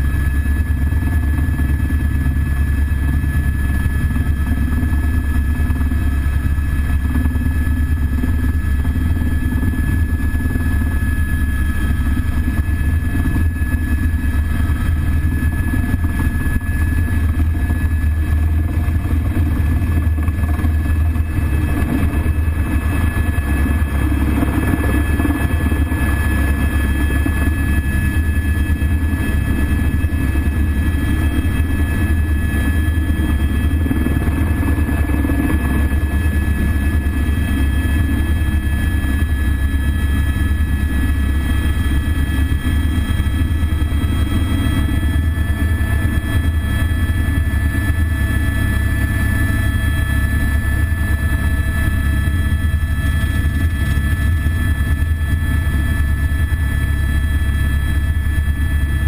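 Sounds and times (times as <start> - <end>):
helicopter cabin drone: 0.0 - 59.0
high turbine whine: 0.0 - 59.0.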